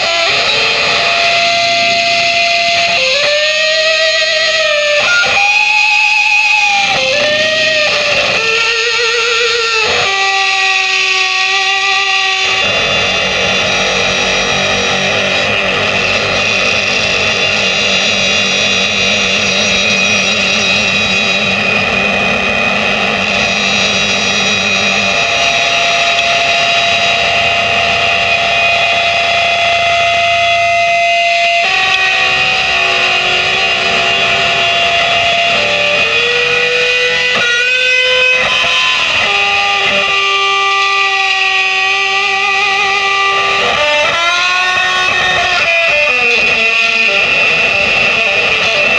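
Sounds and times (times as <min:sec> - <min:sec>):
distorted electric guitar drone: 0:00.0 - 0:48.9.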